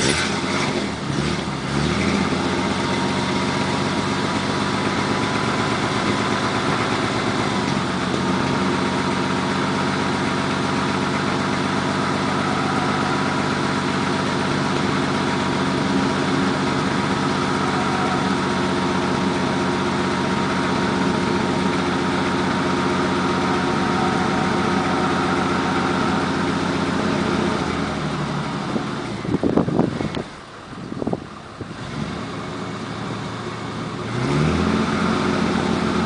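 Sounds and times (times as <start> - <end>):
pickup truck engine idling: 0.0 - 36.0.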